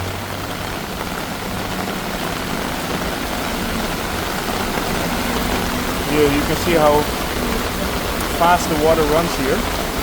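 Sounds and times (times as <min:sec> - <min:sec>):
heavy rain downpour: 0:00.0 - 0:10.0
low hum of traffic: 0:00.0 - 0:10.0.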